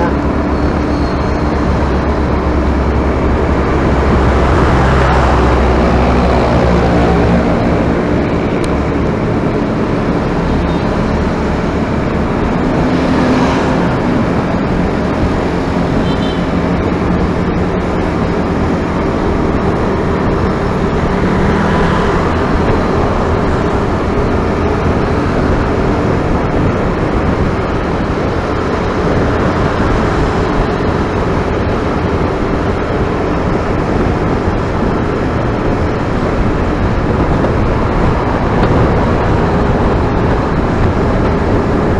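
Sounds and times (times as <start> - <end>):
road and wind rush: 0.0 - 41.9
vehicle engine hum: 0.0 - 41.9.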